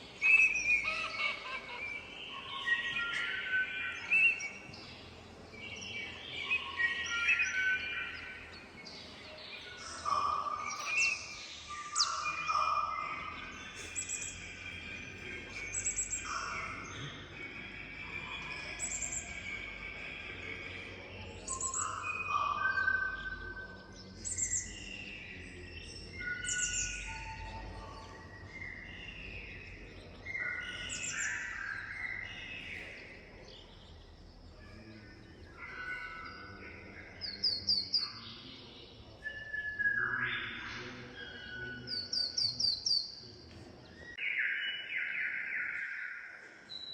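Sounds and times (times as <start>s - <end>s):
recorded bird songs: 0.0s - 46.9s.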